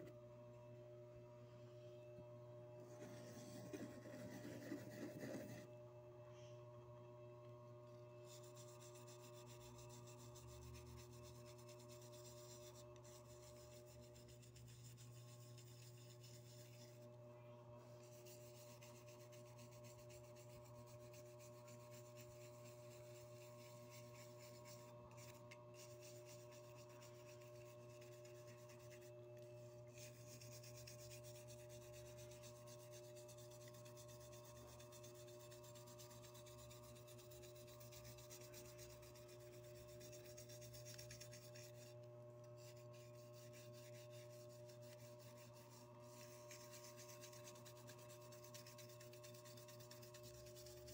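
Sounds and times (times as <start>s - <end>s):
toothbrush scrubbing metal: 8.2s - 17.1s, 18.0s - 50.9s.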